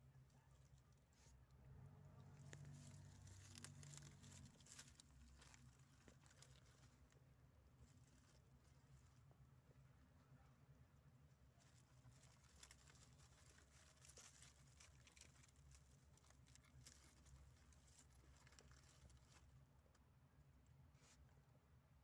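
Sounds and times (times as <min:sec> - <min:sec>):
low steady hum: 0:00.0 - 0:22.0
dry straw rustling: 0:02.2 - 0:20.0.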